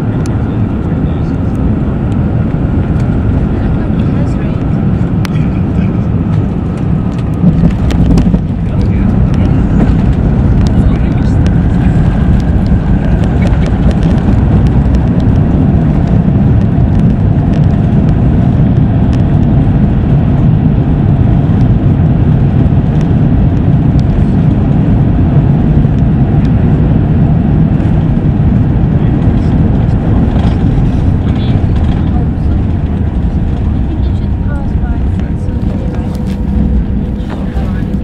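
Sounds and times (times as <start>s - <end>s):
deep aircraft cabin rumble: 0.0s - 38.0s.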